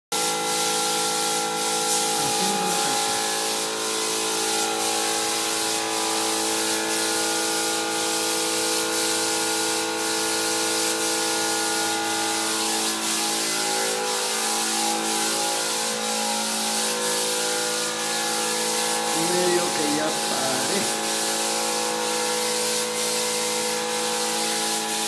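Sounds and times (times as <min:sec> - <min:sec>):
spray gun hissing: 0:00.2 - 0:25.0.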